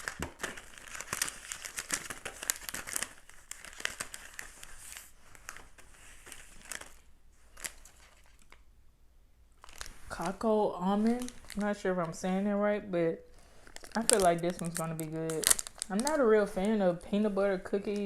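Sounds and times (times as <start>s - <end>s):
plastic wrapper crinkling: 0.0s - 8.7s, 9.5s - 12.6s, 13.2s - 18.0s.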